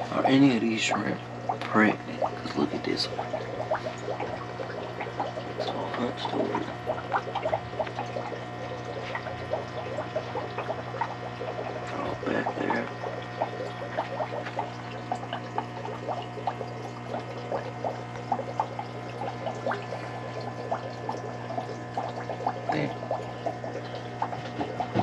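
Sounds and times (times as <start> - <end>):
pump hum: 0.0 - 25.0
water trickling and bubbling: 0.0 - 25.0.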